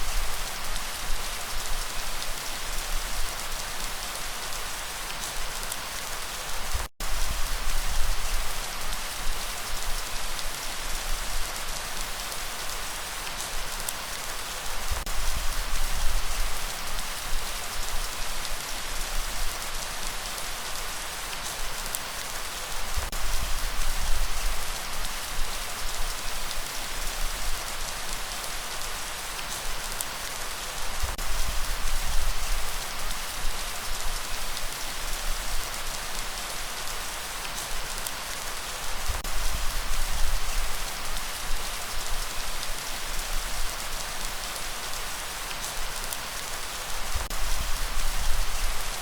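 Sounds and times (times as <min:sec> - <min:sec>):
rain falling on a surface: 0:00.0 - 0:49.0.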